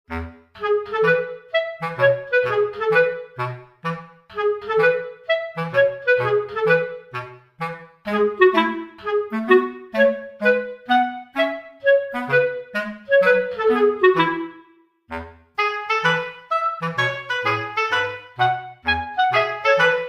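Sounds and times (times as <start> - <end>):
bouncy background music: 0.1 - 20.0.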